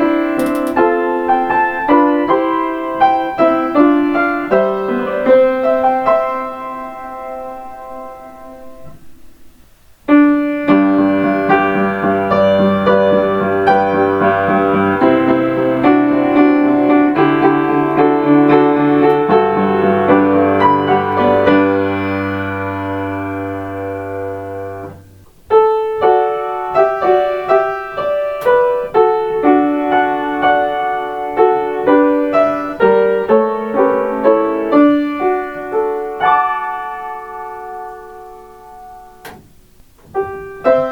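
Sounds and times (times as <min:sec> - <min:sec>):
piano melodies: 0:00.0 - 0:40.9.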